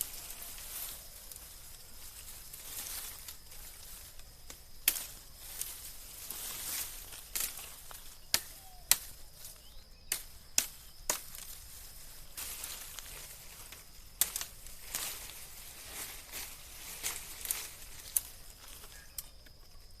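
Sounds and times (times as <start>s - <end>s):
twigs rustling: 0.0s - 20.0s.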